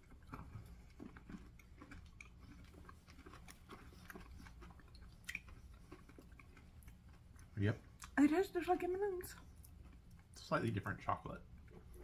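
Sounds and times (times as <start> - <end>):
chewing crunchy candies: 0.0 - 12.0.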